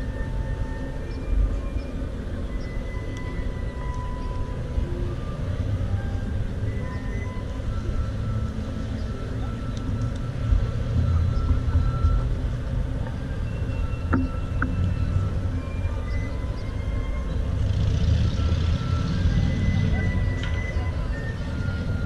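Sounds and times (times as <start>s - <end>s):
low rumble of traffic: 0.0s - 22.0s.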